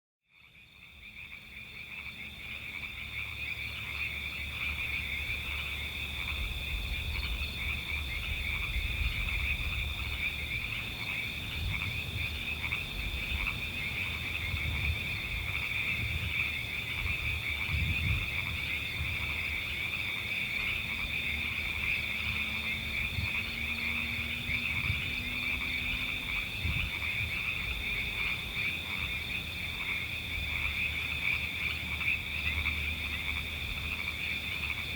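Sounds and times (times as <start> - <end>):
deep frog croaks: 0.3 - 34.9
frogs trilling: 0.3 - 34.9.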